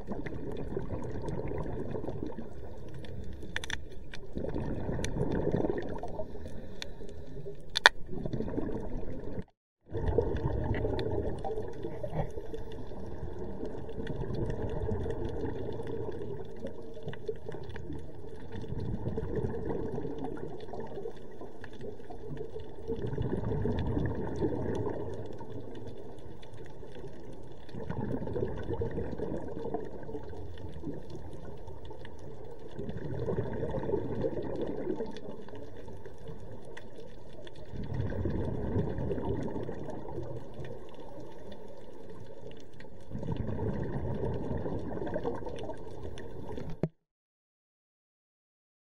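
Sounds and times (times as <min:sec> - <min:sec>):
scuba regulator bubbly exhalation: 0:00.0 - 0:47.0.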